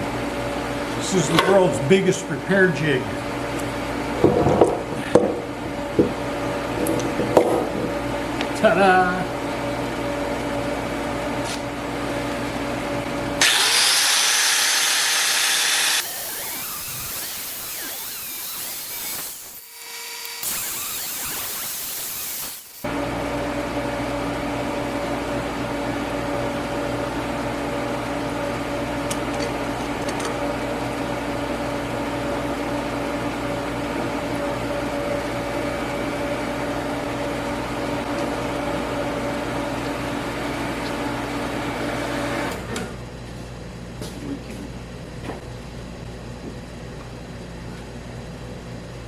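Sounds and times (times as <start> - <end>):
electrical machine hum: 0.0 - 43.1.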